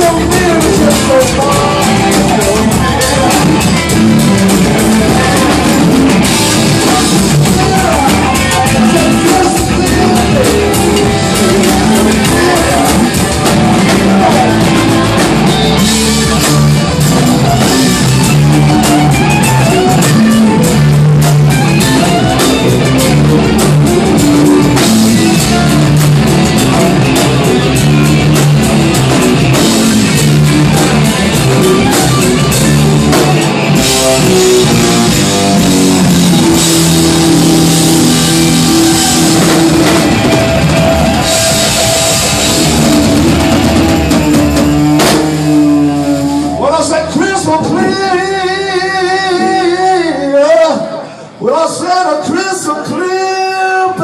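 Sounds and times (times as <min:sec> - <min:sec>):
electric guitars: 0:00.0 - 0:51.4
live rock band playing: 0:00.0 - 0:51.4.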